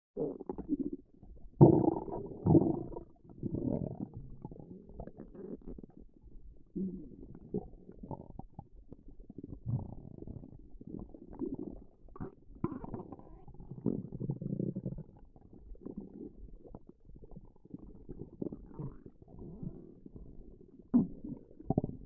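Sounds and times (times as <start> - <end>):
stomach growling: 0.2 - 22.0.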